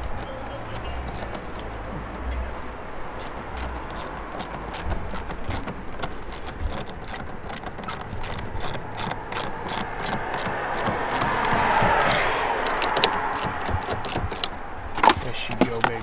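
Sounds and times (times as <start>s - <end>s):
ratchet wrench clicking: 0.0s - 1.8s, 3.2s - 15.2s.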